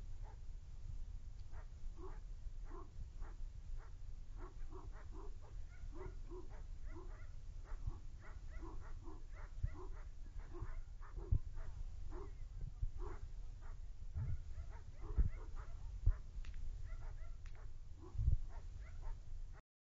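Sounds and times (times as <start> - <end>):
dog barking: 1.5 - 12.4, 13.0 - 16.2, 16.8 - 19.2.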